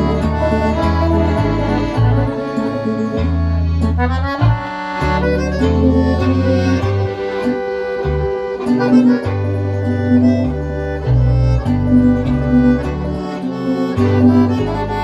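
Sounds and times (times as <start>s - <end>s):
accordion playing a tune: 0.0s - 15.0s.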